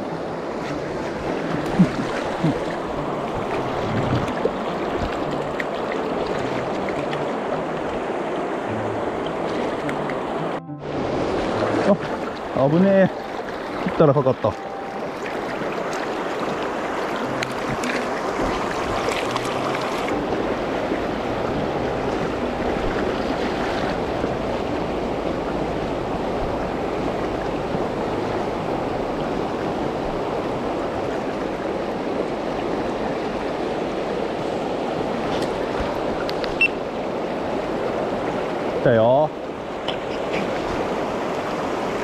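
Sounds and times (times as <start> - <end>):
river current rushing: 0.0 - 42.0.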